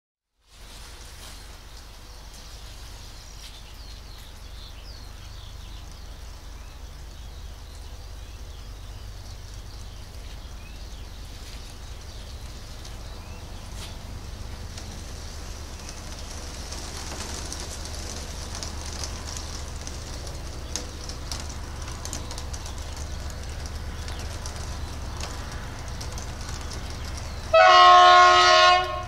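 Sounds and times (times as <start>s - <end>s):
rain hiss: 0.4s - 29.0s
distant diesel locomotives rumbling: 0.5s - 29.0s
birds chirping: 1.0s - 29.0s.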